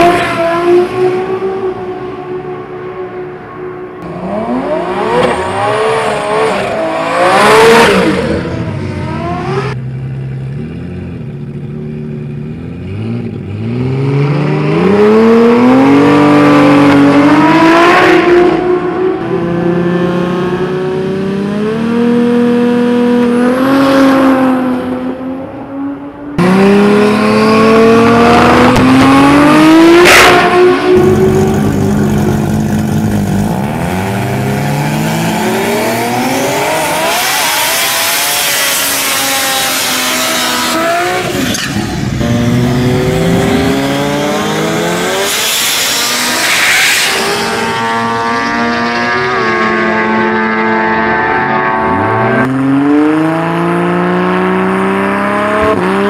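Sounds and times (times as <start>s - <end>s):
drag cars accelerating: 3.9s - 9.8s, 12.9s - 56.0s.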